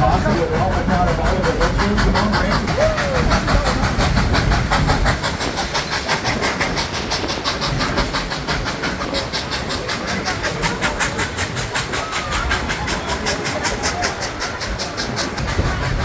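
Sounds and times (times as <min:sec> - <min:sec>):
steam train running on track: 0:00.0 - 0:16.0.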